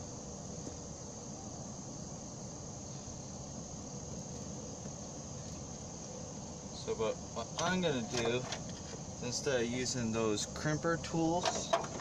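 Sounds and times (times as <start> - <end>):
insects chirring: 0.0 - 12.0
low outdoor rumble: 0.0 - 12.0.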